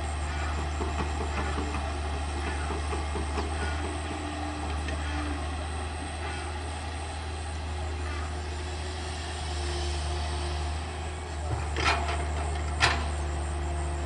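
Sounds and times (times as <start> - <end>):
excavator diesel engine: 0.0 - 14.0
thin steady whine: 0.0 - 14.0.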